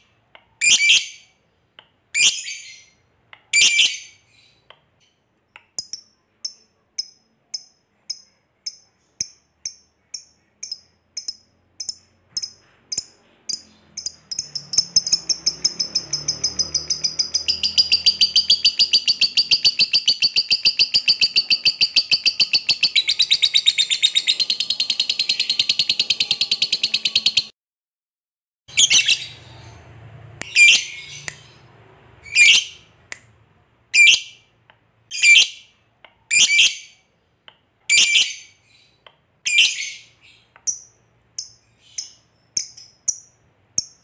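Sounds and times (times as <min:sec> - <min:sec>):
bird chirping and trilling: 0:00.6 - 0:01.4, 0:02.2 - 0:05.2, 0:05.8 - 0:27.5, 0:28.7 - 0:33.0, 0:33.9 - 0:34.5, 0:35.1 - 0:37.1, 0:37.9 - 0:44.0.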